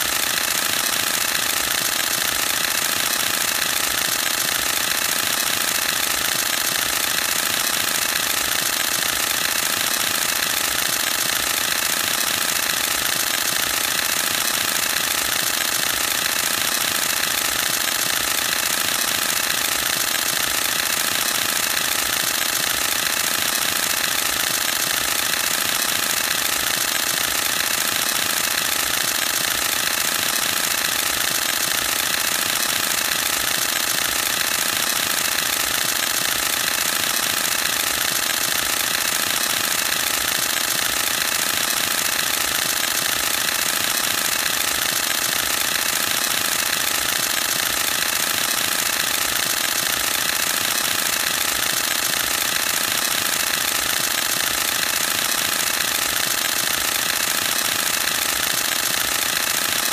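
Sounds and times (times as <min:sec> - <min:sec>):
camera shutter burst clattering: 0:00.0 - 0:59.9.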